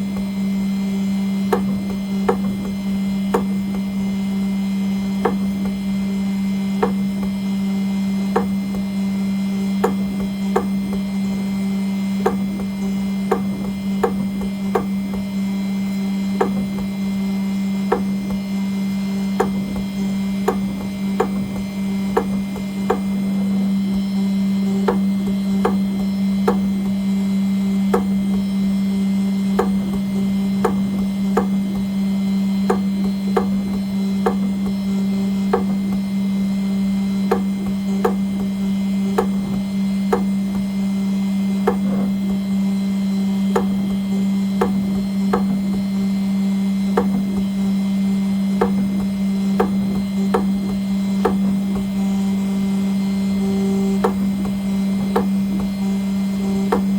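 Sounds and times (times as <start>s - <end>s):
spindle humming: 0.0s - 56.9s.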